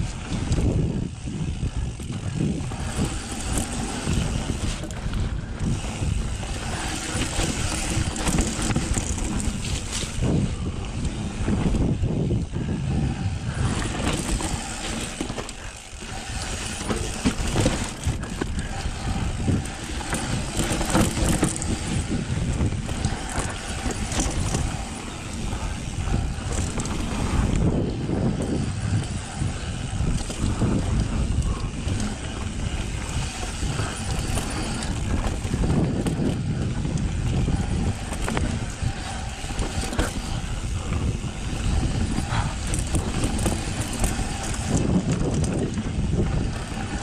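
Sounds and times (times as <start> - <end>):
bike chain and frame rattling: 0.0 - 47.0
bike tyres rolling over dirt: 0.0 - 47.0.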